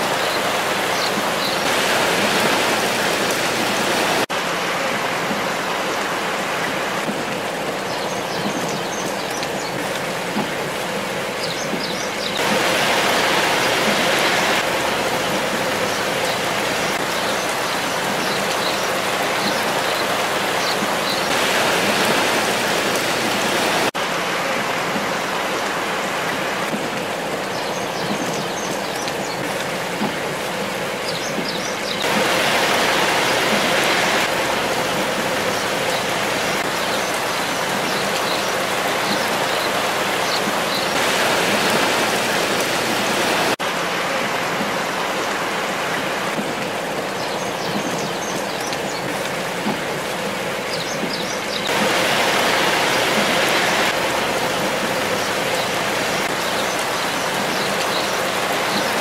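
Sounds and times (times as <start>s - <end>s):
rain on wet pavement: 0.0s - 59.0s.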